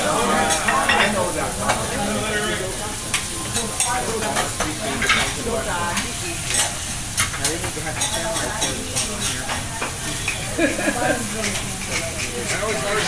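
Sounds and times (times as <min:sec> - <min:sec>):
steak sizzling on griddle: 0:00.0 - 0:13.0.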